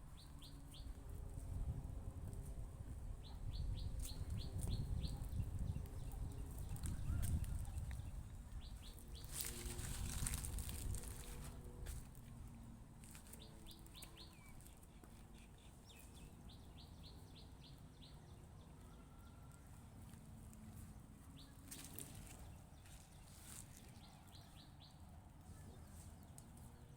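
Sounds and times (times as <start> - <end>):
small birds chirping: 3.2 - 11.4, 13.0 - 26.9.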